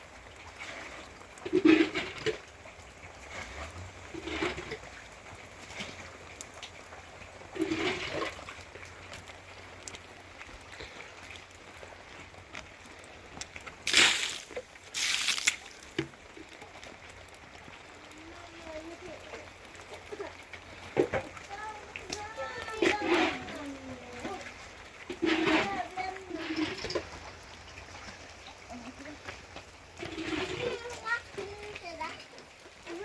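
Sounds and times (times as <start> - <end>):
rushing splashes: 0.0 - 33.0
water splashing and running: 0.0 - 33.0.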